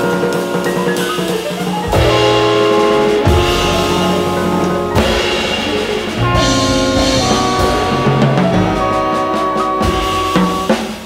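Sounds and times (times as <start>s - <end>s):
bass: 0.0s - 11.0s
drum kit and cymbals: 0.0s - 11.0s
jazz ensemble horns: 0.0s - 11.0s
piano: 0.0s - 11.0s.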